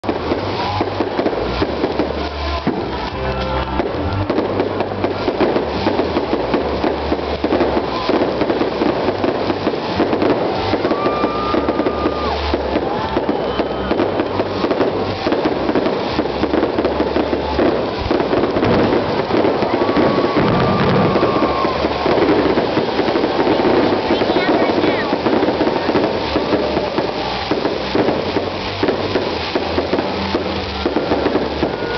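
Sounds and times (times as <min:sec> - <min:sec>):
fireworks bursting and crackling: 0:00.0 - 0:31.9
music playing: 0:00.1 - 0:31.9.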